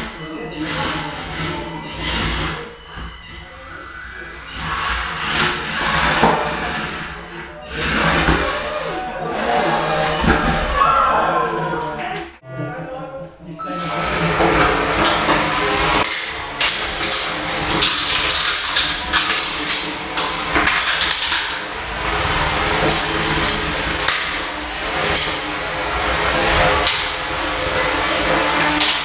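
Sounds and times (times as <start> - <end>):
electric motors whining: 0.0 - 12.2, 13.6 - 29.0.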